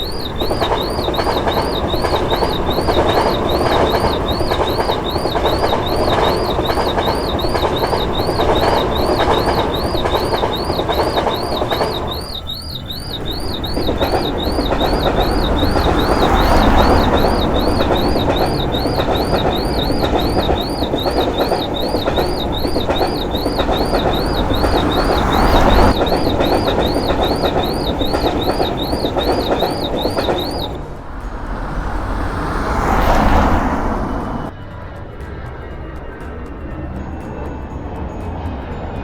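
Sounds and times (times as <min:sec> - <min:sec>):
railroad crossing signal warbling: 0:00.0 - 0:34.5
train rumbling past: 0:00.0 - 0:39.0.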